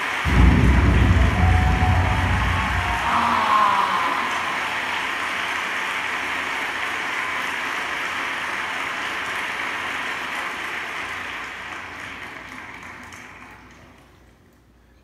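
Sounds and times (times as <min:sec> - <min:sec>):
crowd applause: 0:00.0 - 0:14.2.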